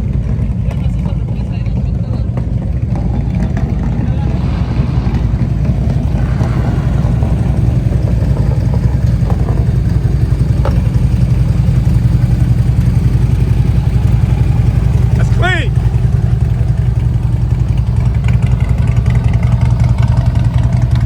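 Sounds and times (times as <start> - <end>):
motorcycle engine rumbling: 0.9 - 18.7.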